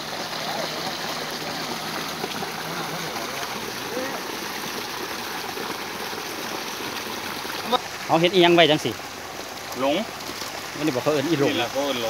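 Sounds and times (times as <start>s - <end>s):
stream water pouring: 0.0s - 12.0s.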